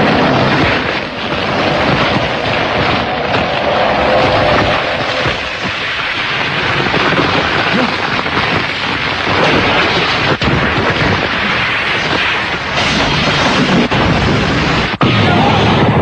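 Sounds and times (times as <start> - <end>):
rumbling roar of energy: 0.0 - 16.0.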